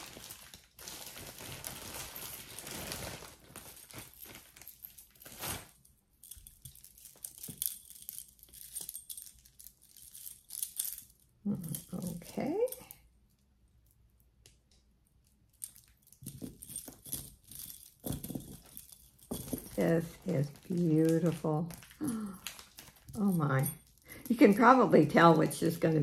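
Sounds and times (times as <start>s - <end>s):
rustling: 0.0s - 12.8s, 15.6s - 24.6s
jewelry clinking and jingling: 0.0s - 13.1s, 15.4s - 26.0s.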